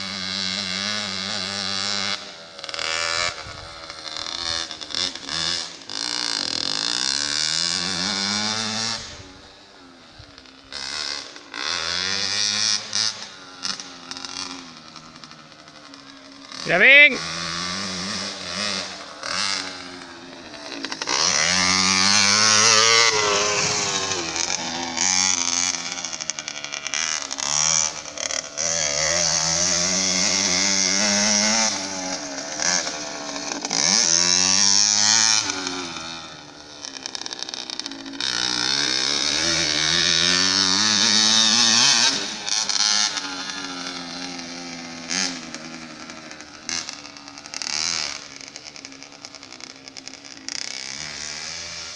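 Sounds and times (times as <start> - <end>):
motorbike engine revving: 0.0 - 51.9.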